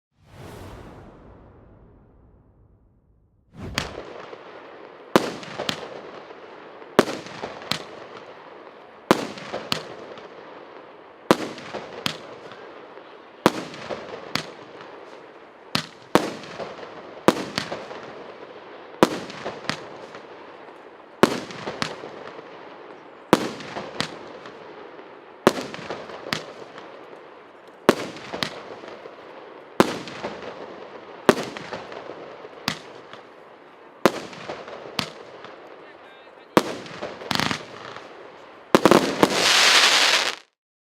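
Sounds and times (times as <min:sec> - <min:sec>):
firework bangs: 0:00.2 - 0:40.5
firework crackle and hiss: 0:03.5 - 0:40.6.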